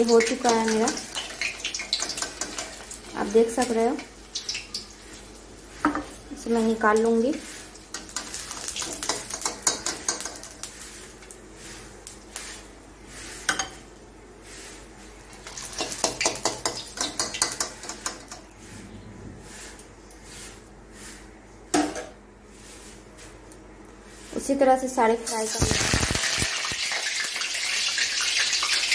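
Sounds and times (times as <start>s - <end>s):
oil sizzling faintly: 0.0s - 28.9s.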